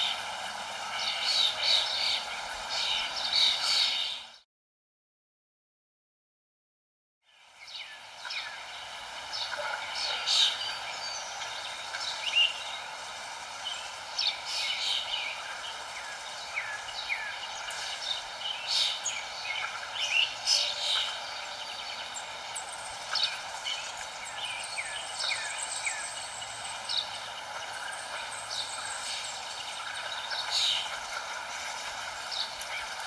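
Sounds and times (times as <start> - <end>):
small birds chirping: 0.0 - 4.4, 7.3 - 33.0
steady background hiss: 0.0 - 4.4, 7.3 - 33.0.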